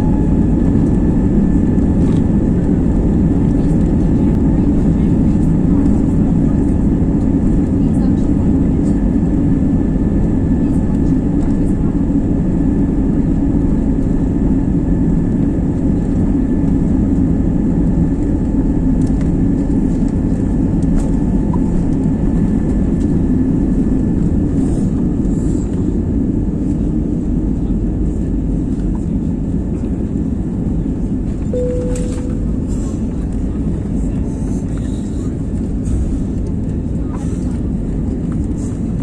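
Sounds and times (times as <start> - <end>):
jet engines and airflow in cabin: 0.0 - 39.0.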